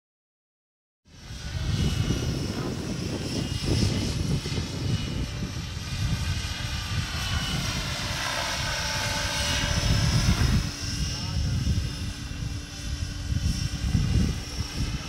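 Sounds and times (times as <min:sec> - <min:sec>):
model helicopter whine: 0:01.1 - 0:15.0.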